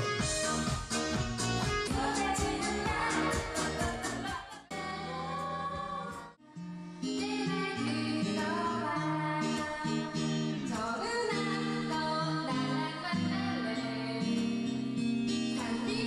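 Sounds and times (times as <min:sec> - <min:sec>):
pop song with singing: 0:00.0 - 0:16.0.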